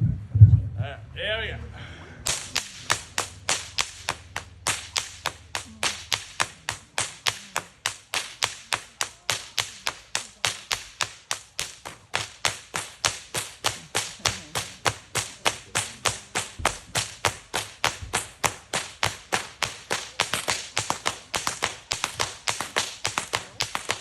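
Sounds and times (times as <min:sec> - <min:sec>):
whip cracking: 0:02.2 - 0:24.0.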